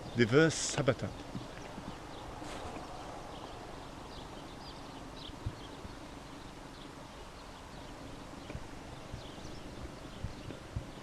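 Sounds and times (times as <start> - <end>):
faint steady hum: 0.0 - 11.0
small birds chirping: 0.0 - 11.0.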